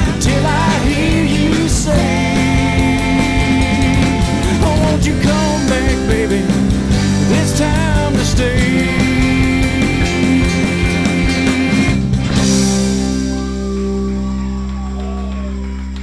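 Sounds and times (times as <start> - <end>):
live rock band playing: 0.0 - 15.6
electric guitar bending notes: 0.0 - 15.7.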